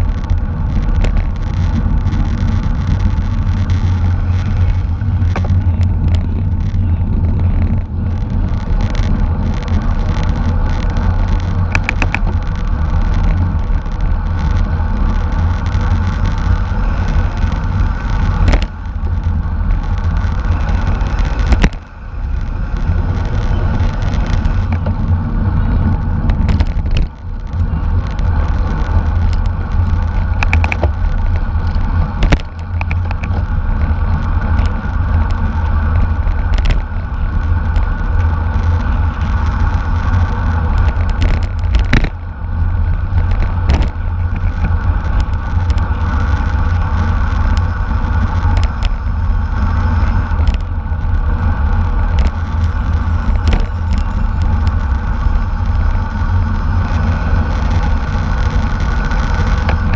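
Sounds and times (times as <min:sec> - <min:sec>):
bicycle road rumble: 0:00.0 - 0:59.9
wind rush: 0:00.0 - 0:59.9.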